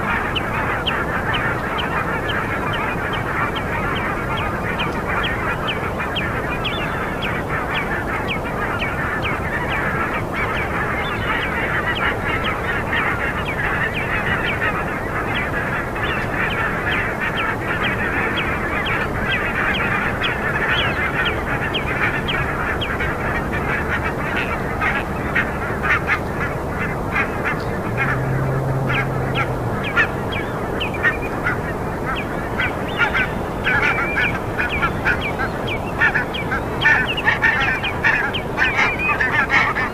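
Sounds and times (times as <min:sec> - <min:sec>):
chorus of bird calls: 0:00.0 - 0:39.9
low steady hum: 0:00.0 - 0:39.9.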